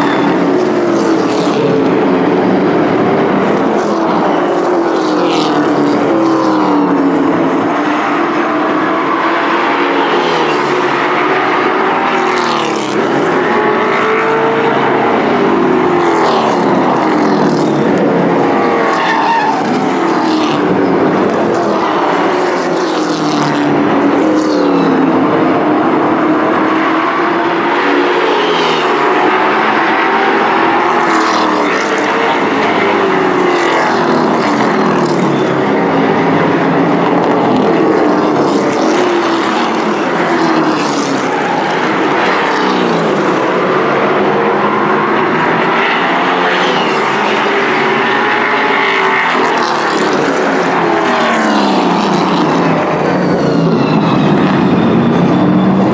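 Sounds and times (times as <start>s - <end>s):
race truck engines: 0.0s - 55.9s.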